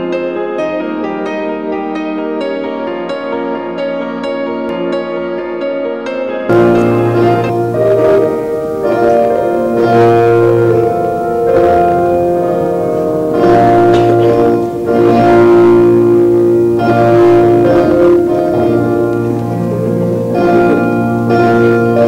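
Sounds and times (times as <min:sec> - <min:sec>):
instrumental music with held notes: 0:00.0 - 0:22.0.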